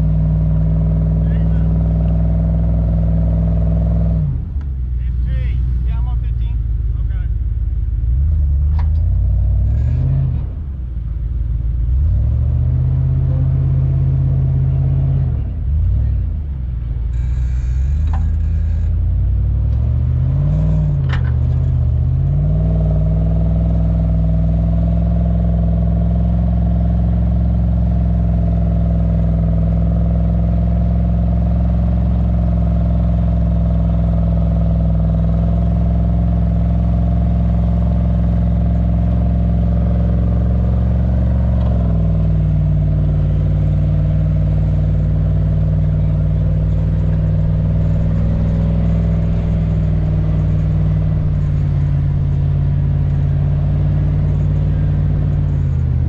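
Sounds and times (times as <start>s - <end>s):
vehicle engine revving under load: 0.0s - 56.0s.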